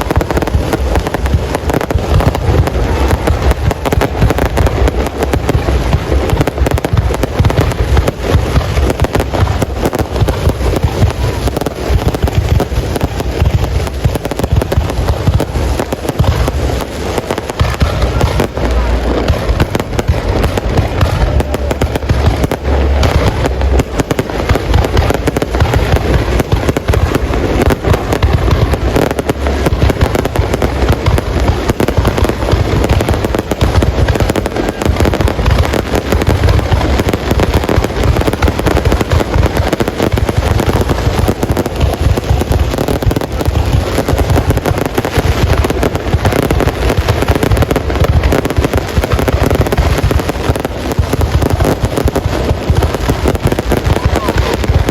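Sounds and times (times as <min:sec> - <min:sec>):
deep fireworks booms: 0:00.0 - 0:54.9
fireworks bangs and crackles: 0:00.0 - 0:54.9.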